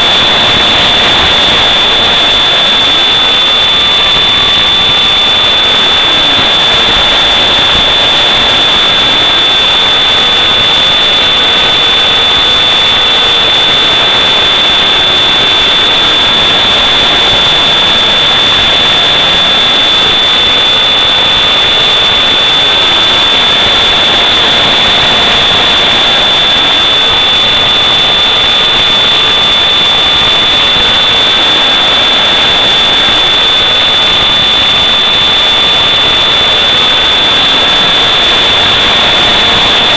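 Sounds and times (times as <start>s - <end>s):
model aircraft motor whine: 0.0s - 39.9s
rushing wind noise: 0.0s - 39.9s.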